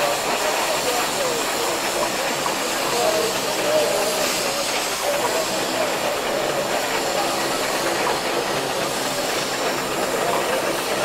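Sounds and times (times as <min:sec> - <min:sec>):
steam hissing: 0:00.0 - 0:11.0
steam roller running: 0:00.0 - 0:11.0.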